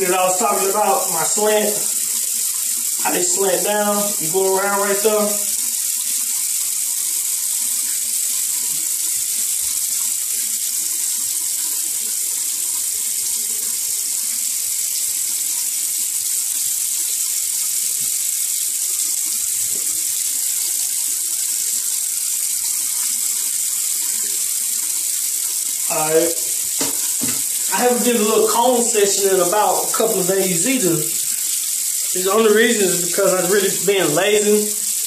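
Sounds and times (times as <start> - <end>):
water running from tap: 0.0 - 35.0.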